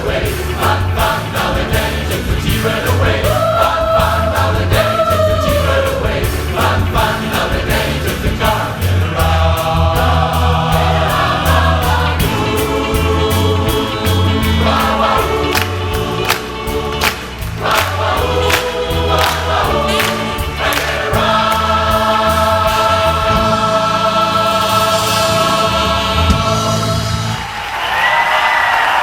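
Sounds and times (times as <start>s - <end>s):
drums and bass: 0.0s - 27.7s
large choir singing pop: 0.0s - 28.7s.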